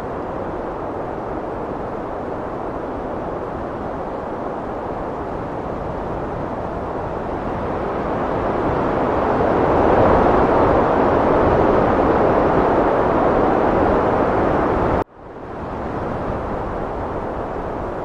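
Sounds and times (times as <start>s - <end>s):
heavy wind blowing: 0.0s - 18.0s.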